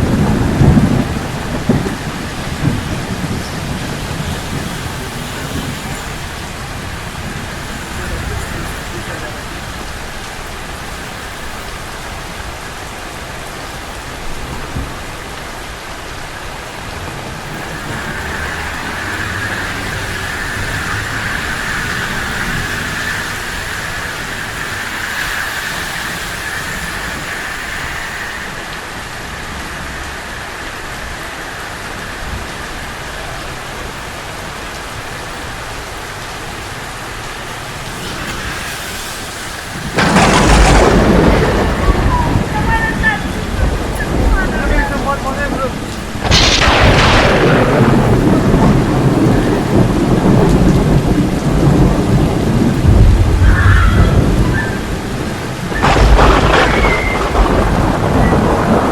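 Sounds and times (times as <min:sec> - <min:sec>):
rain on street: 0:00.0 - 0:58.9.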